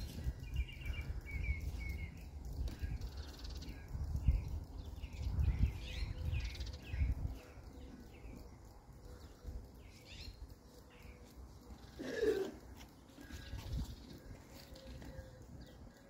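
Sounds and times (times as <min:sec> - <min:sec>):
wind rumble on microphone: 0:00.0 - 0:11.0, 0:13.2 - 0:16.0
small birds chirping: 0:00.0 - 0:16.0.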